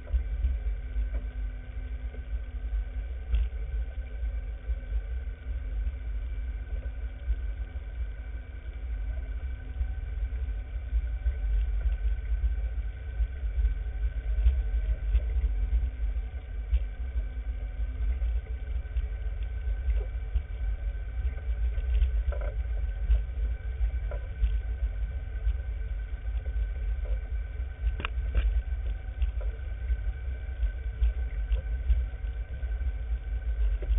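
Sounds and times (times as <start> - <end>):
off-road vehicle low rumble: 0.0 - 33.9.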